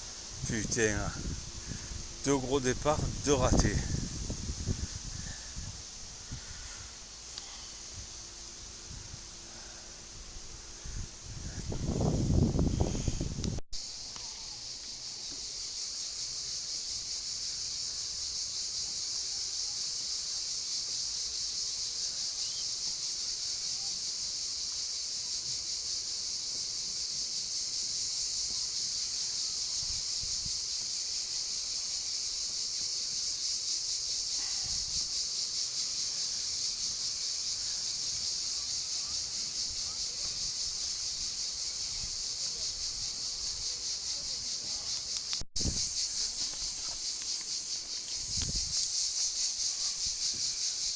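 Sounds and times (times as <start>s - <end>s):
cicadas buzzing: 0.0s - 50.9s.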